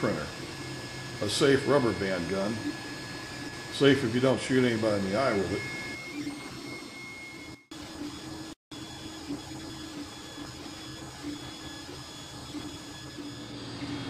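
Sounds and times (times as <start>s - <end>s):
printer motors whining: 0.0s - 14.0s.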